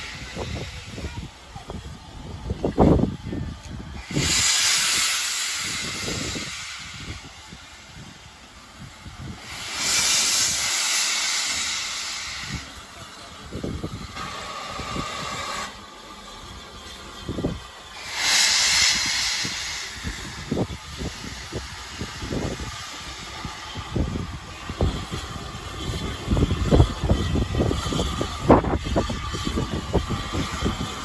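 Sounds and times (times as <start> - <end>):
wind buffeting microphone: 0.0 - 12.8, 13.4 - 15.7, 16.4 - 31.0
locomotive venting steam: 0.0 - 31.0.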